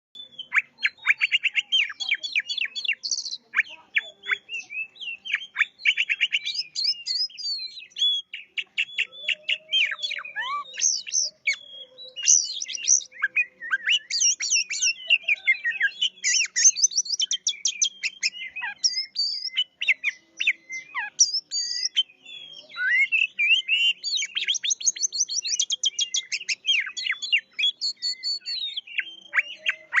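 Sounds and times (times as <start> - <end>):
songbird singing: 0.2 - 30.0.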